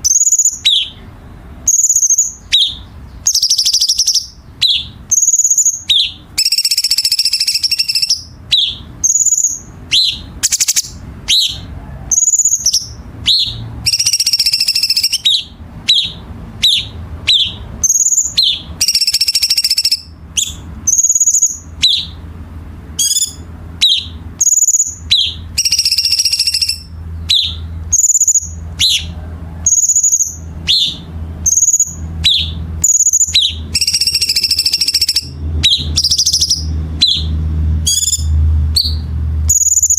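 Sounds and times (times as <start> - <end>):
bird singing whistles and rasps: 0.0 - 1.1, 1.7 - 22.2, 23.0 - 39.9.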